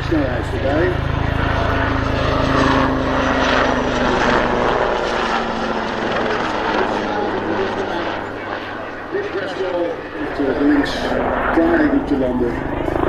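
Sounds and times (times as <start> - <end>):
helicopter passing at speed: 0.0 - 13.0.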